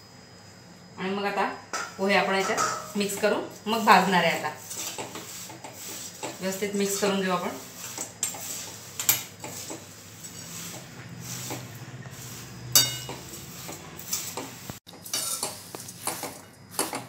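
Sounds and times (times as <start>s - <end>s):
metal spatula scraping a pan: 2.4s - 17.0s.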